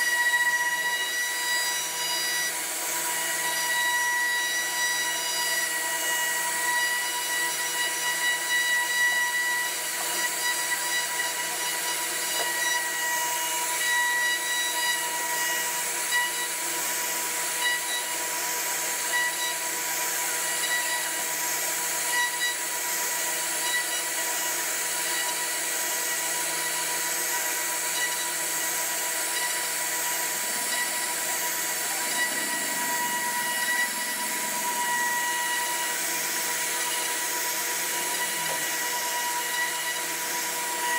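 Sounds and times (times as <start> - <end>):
cnc router spindle whine: 0.0 - 40.9
router cutting wood: 0.0 - 40.9.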